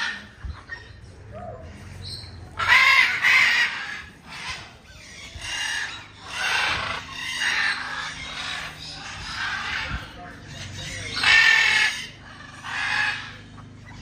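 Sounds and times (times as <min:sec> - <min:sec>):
birds with raspy calls: 0:00.0 - 0:14.0.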